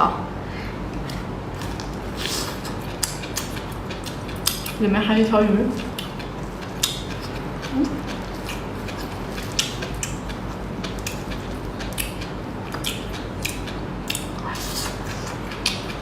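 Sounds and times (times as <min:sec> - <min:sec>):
steady low hum: 0:00.0 - 0:16.0
food crackling as chewed: 0:01.0 - 0:04.8, 0:05.7 - 0:16.0.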